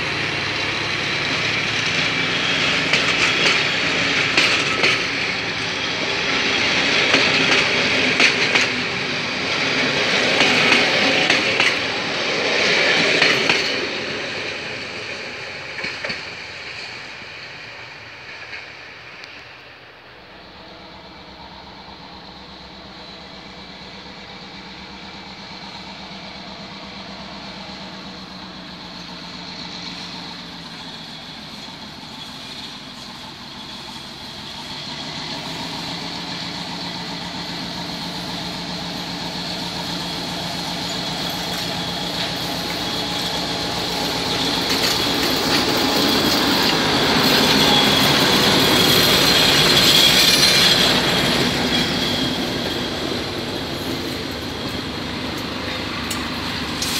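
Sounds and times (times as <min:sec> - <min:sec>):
diesel locomotive drone: 0:00.0 - 0:56.9
high wheel squeal: 0:00.0 - 0:56.9.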